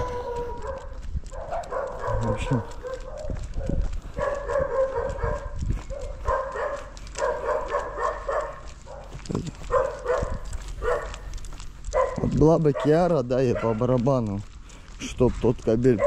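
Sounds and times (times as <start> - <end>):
dog barking: 0.0 - 11.3, 11.9 - 13.9.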